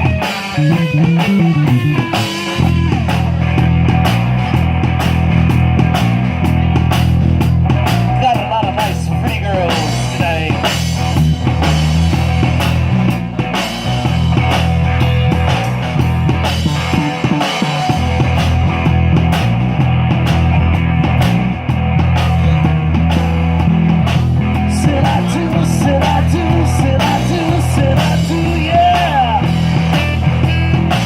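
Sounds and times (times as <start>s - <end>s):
bending lead melody: 0.0s - 31.0s
drums beat: 0.0s - 31.0s
live rock band playing: 0.0s - 31.0s.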